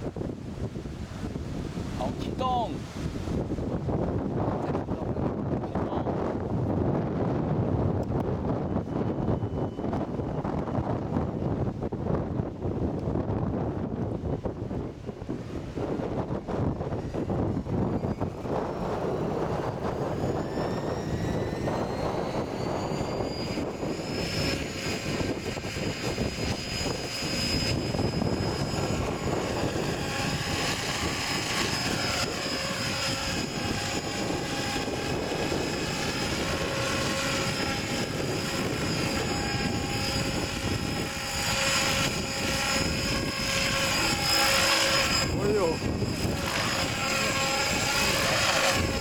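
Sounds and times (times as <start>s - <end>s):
wind on microphone: 0.0s - 49.0s
model helicopter rotor whine: 0.1s - 49.0s.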